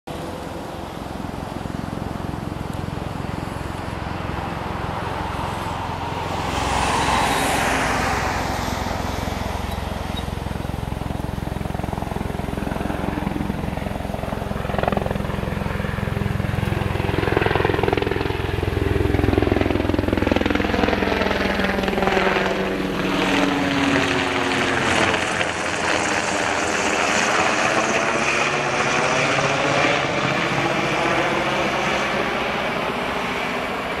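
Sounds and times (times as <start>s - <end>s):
helicopter flying past: 0.1s - 34.0s.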